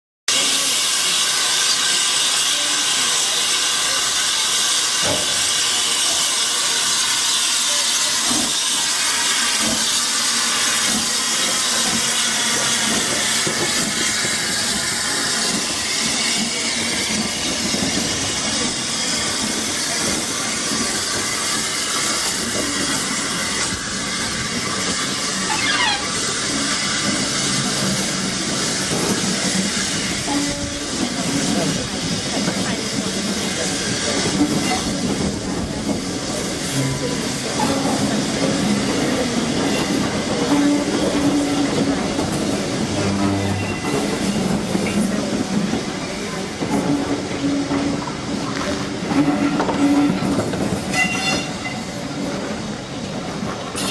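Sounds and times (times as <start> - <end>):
loud steam hiss: 0.3 - 53.9.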